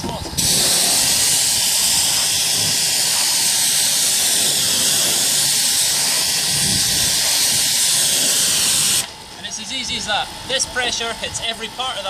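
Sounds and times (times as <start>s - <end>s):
pressure washer spraying: 0.2s - 12.0s.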